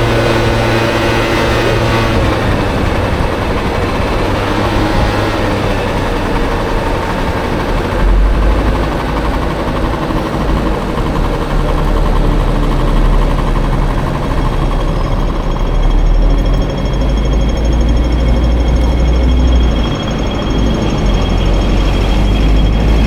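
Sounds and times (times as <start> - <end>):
two-stroke scooter engine running: 0.0 - 23.0
wind and road noise: 0.0 - 23.0.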